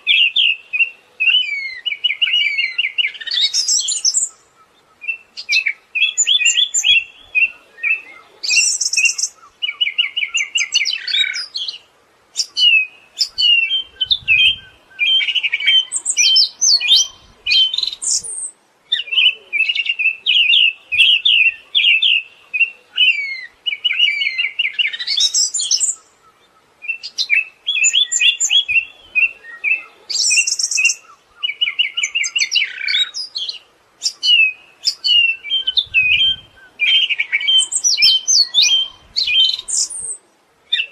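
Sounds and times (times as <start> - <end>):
thrush singing trills and chirps: 0.0 - 40.9.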